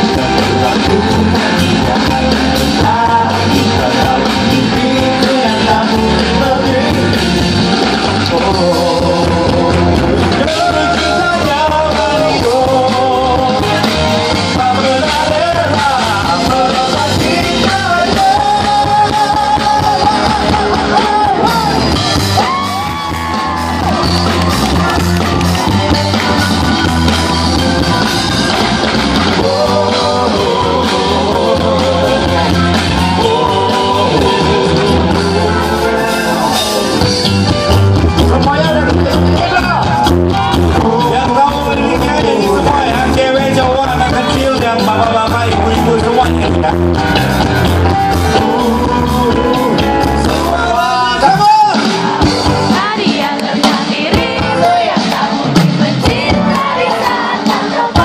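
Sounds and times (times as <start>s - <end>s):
people singing: 0.0s - 37.2s, 40.6s - 46.8s, 48.1s - 58.0s
pop band playing live: 0.0s - 58.0s.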